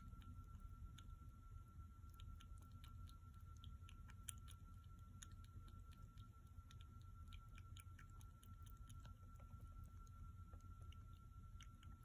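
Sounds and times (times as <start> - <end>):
kitten suckling wet clicks: 2.0 - 12.0.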